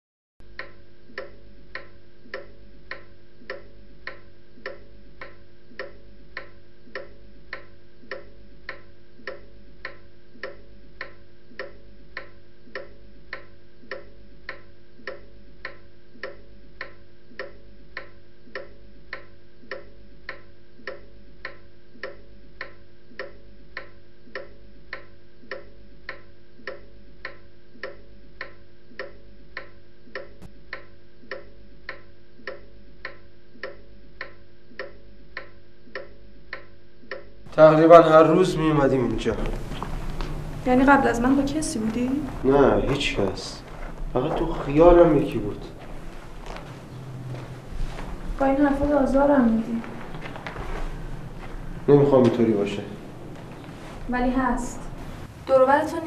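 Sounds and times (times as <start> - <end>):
pendulum clock ticking: 0.5 - 43.7, 46.5 - 53.4
faint steady hum: 0.5 - 56.0.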